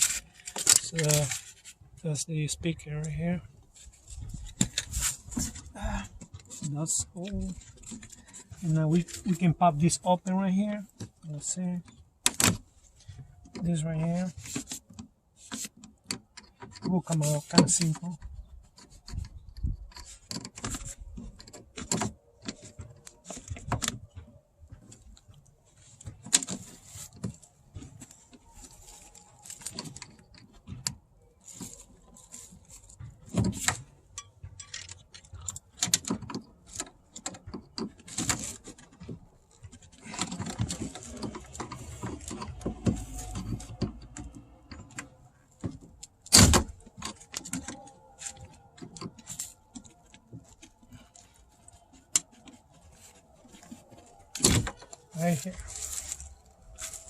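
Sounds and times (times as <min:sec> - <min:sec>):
clicks and rattles of plastic trim: 0:00.0 - 0:01.7, 0:10.7 - 0:57.0
scraping and rustling: 0:00.0 - 0:57.0.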